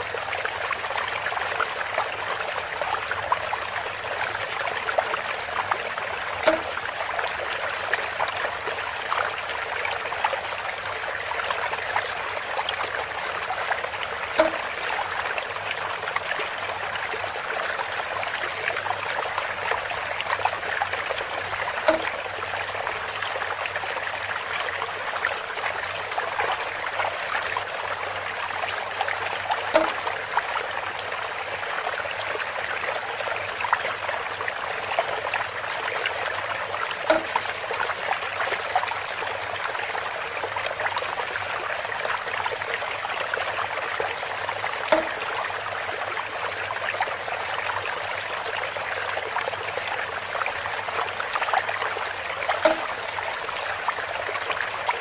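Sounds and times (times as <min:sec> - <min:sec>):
water trickling from spout: 0:00.0 - 0:55.0.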